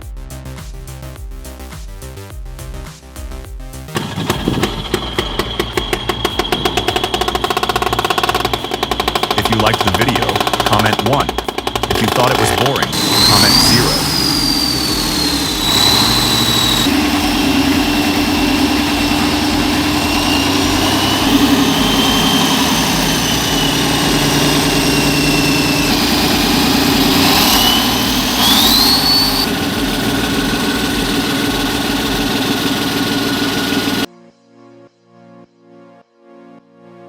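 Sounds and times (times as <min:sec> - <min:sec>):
diesel engine running: 0:03.9 - 0:34.1
hydraulic whines: 0:04.0 - 0:34.1.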